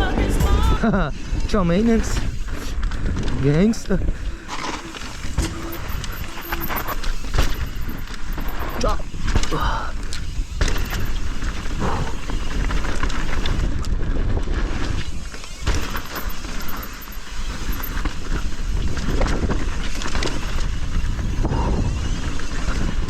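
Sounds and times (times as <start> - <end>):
wind rumbling on microphone: 1.0 - 23.0
bike rattling over bumps: 1.6 - 23.0
tyres rolling over dirt: 1.8 - 21.4.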